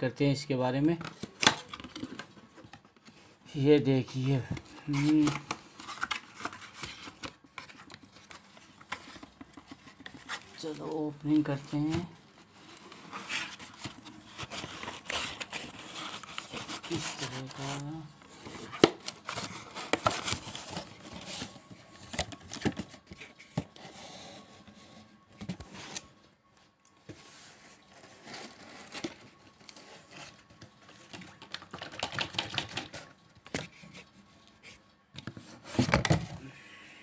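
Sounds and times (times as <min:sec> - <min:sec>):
cardboard box and plastic bottle handled: 0:00.9 - 0:26.1, 0:27.0 - 0:36.4.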